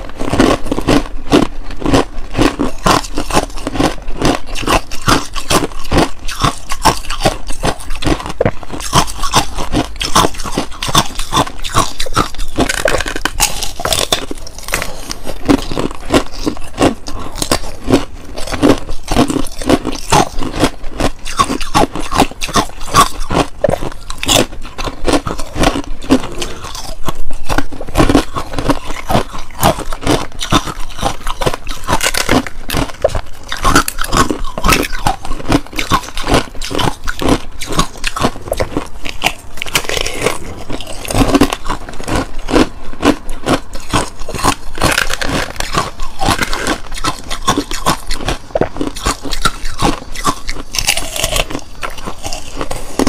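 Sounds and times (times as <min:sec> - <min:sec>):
ice being chewed: 0:00.0 - 0:53.0.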